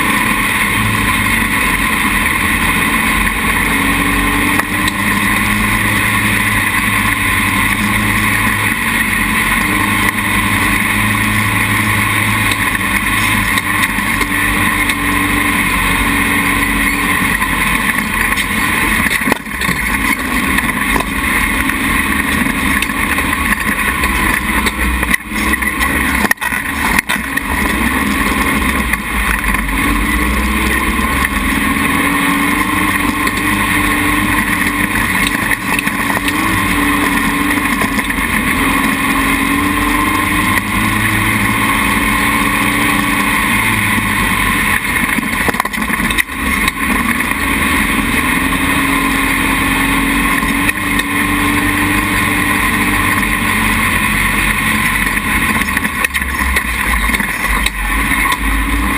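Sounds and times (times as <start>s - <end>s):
dune buggy engine: 0.0s - 58.9s.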